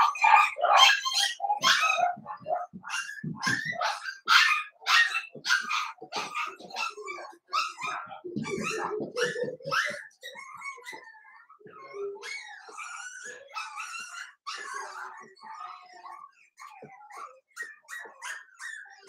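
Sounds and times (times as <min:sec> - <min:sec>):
dog bark-whine: 0:00.0 - 0:19.0.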